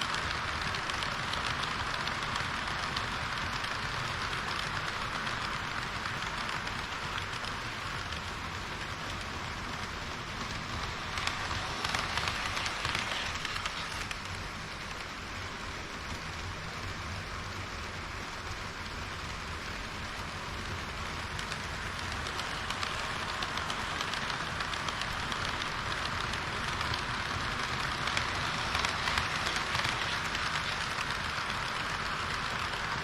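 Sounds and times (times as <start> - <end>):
model train wheels rolling on rails: 0.0 - 33.0.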